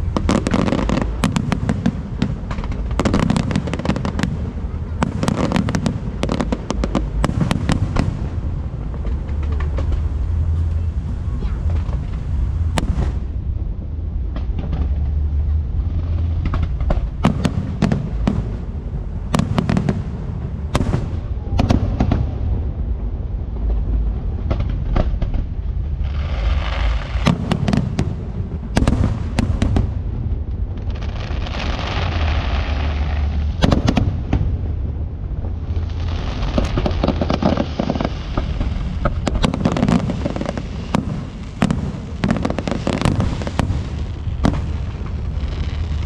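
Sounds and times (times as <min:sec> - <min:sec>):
fireworks crackling: 0:00.0 - 0:46.0
low rumble: 0:00.0 - 0:46.0.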